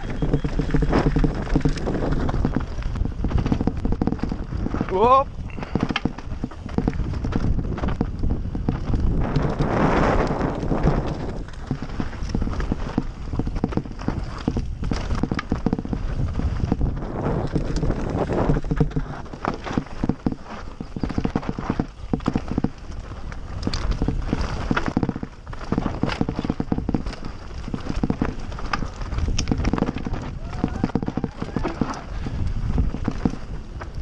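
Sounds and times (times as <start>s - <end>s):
bike rattling: 0.0s - 34.0s
bike tyres crunching over stones: 0.0s - 34.0s.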